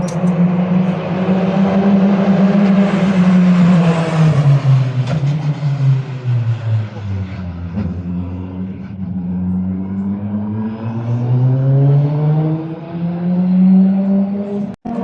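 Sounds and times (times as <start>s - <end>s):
race car engine revving: 0.8s - 15.0s.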